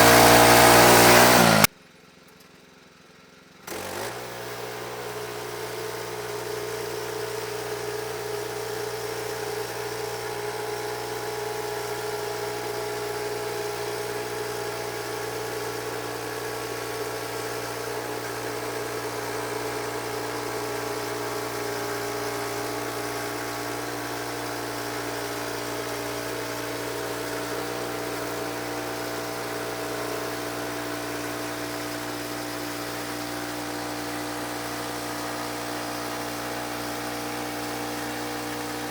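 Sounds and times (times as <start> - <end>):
sawmill engine humming: 0.0 - 1.7, 3.7 - 38.9.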